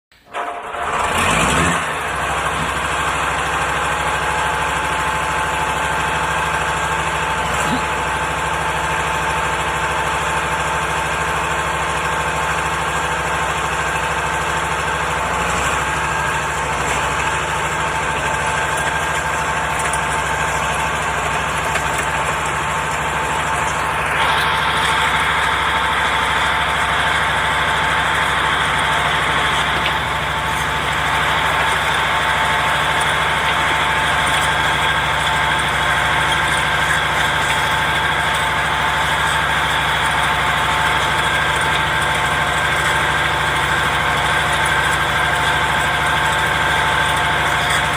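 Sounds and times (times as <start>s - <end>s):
bulldozer diesel engine running: 0.2s - 47.9s.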